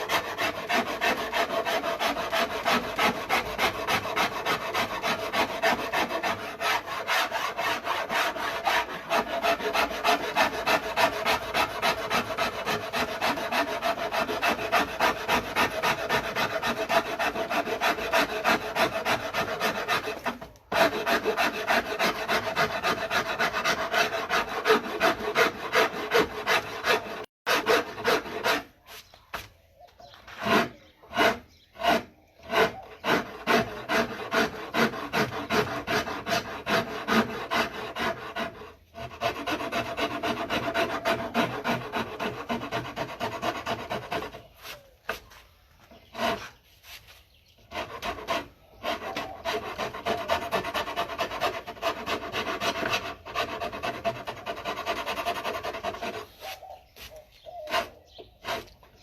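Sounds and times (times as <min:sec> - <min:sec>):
rasp filing wood: 0:00.0 - 0:59.0.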